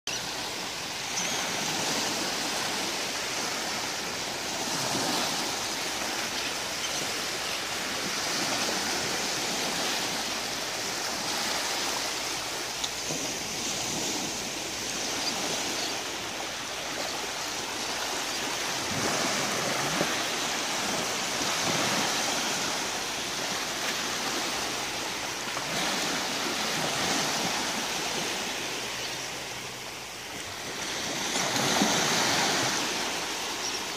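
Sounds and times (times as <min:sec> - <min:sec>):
small waves lapping on sand: 0:00.1 - 0:33.9.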